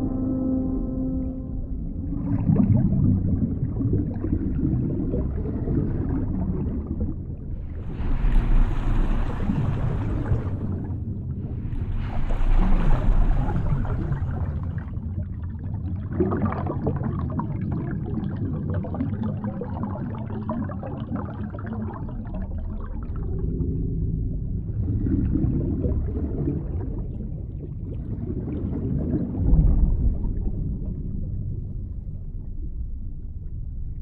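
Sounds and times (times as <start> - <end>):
underwater low rumbling wash: 0.0 - 34.0
gurgling bubbles: 1.9 - 33.8.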